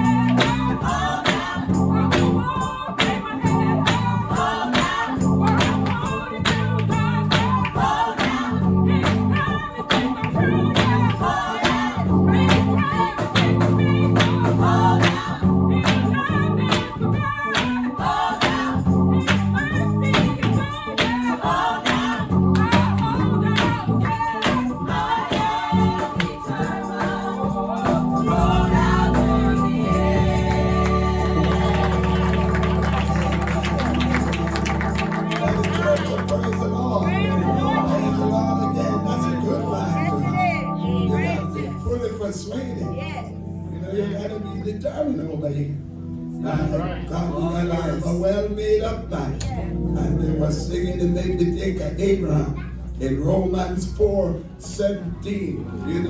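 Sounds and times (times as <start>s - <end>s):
gospel music with singing: 0.0s - 56.0s.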